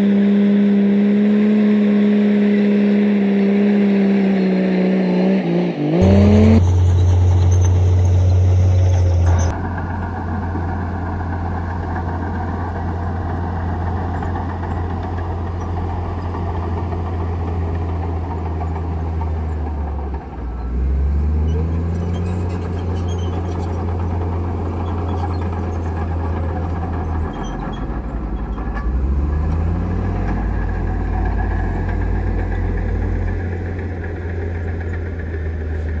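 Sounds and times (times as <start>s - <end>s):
bulldozer diesel engine droning: 0.0s - 36.0s.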